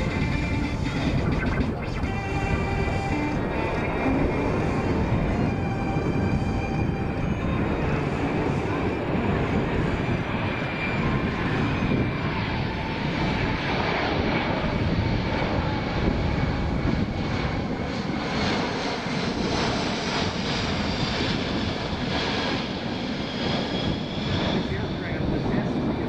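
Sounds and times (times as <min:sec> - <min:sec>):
jet engines roaring: 0:00.0 - 0:26.0
turbine whine: 0:00.0 - 0:26.0.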